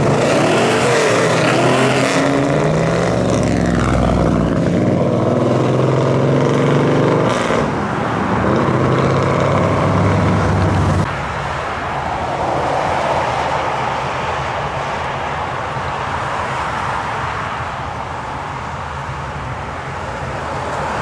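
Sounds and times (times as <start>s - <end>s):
passing street traffic: 0.0s - 21.0s.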